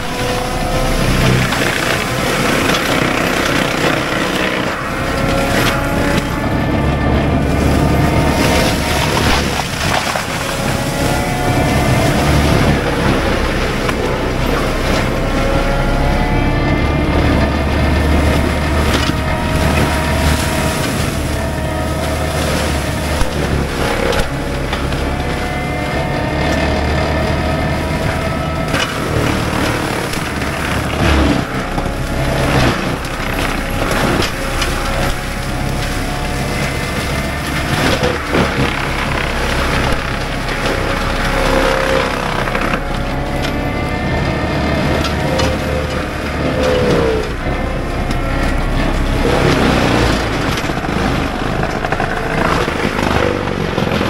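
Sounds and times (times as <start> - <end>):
diesel engine under load: 0.0 - 54.0
mulcher drum grinding brush: 0.0 - 54.0.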